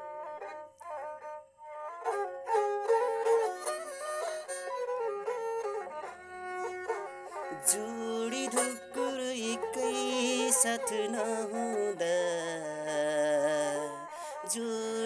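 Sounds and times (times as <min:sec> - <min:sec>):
bowed fiddle folk melody: 0:00.0 - 0:15.0.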